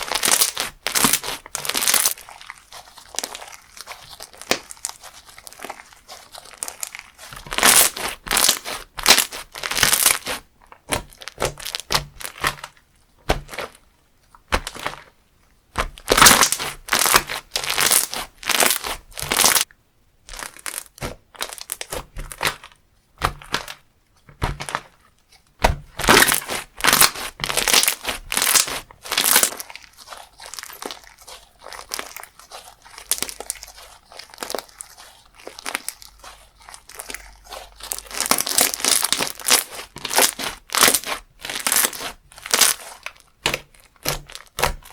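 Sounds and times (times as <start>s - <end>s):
crunchy slime crackling: 0.0s - 15.1s, 15.8s - 19.7s, 20.3s - 44.9s.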